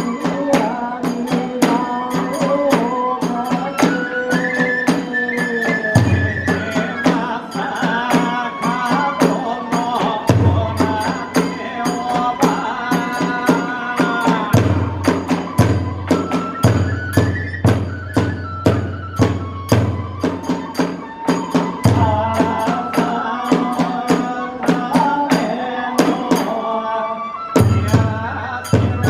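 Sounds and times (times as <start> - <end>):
bamboo flute melody: 0.0 - 29.0.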